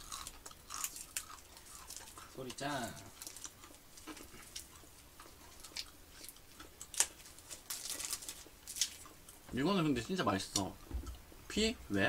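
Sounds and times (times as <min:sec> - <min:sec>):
crunching and chewing churro: 0:00.0 - 0:11.3.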